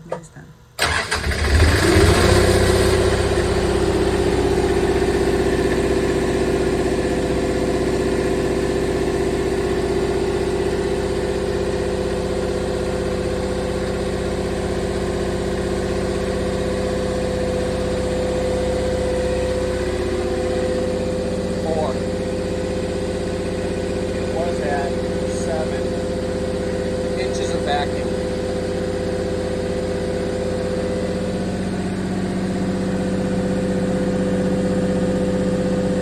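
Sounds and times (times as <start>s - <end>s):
diesel generator running: 0.0s - 36.0s.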